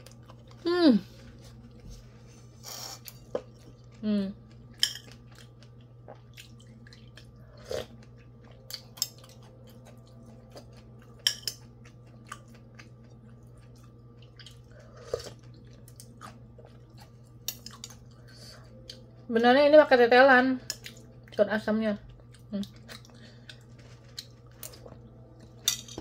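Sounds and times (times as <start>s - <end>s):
person chewing food: 0.0s - 0.7s, 1.3s - 19.2s, 20.8s - 21.4s, 22.1s - 26.0s
steady low hum: 0.0s - 26.0s.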